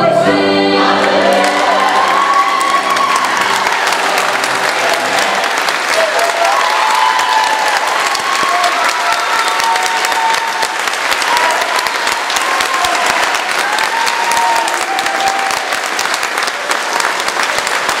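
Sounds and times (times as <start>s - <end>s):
audience applauding: 1.0s - 18.0s.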